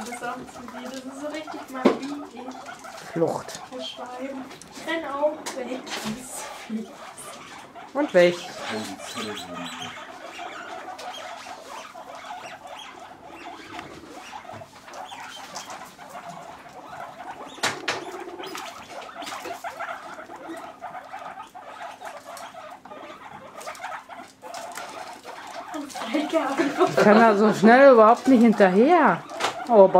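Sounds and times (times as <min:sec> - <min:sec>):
guinea pigs scrabbling in bedding: 0:00.0 - 0:29.9.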